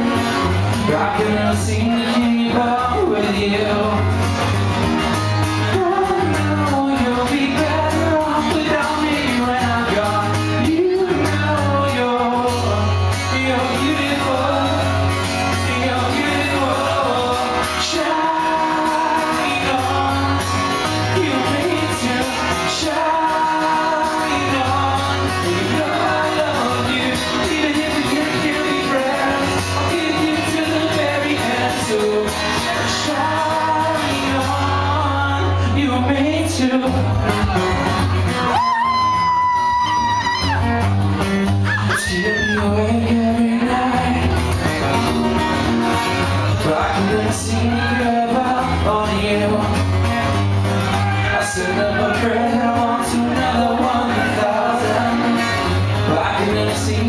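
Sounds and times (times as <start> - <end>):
man singing into a microphone: 0.0 - 4.6, 5.4 - 37.9, 41.6 - 45.1, 46.2 - 57.0
strummed acoustic guitar: 0.0 - 57.0.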